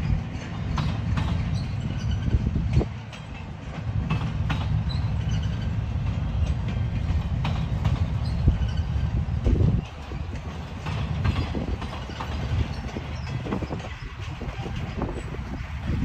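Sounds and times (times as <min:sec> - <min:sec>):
freight train rumbling: 0:00.0 - 0:16.0
wheels clicking over rail joints: 0:00.0 - 0:16.0.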